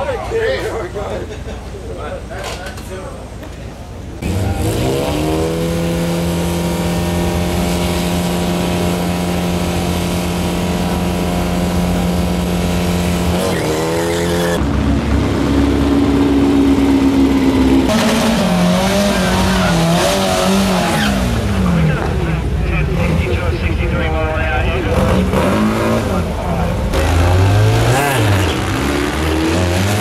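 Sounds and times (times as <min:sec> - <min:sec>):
drag car engines revving: 0:00.0 - 0:30.0.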